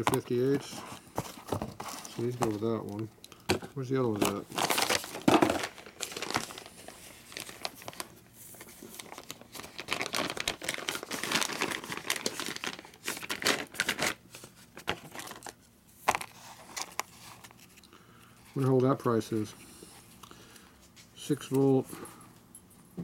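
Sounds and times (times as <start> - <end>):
plastic and paper crinkling: 0.0 - 19.6.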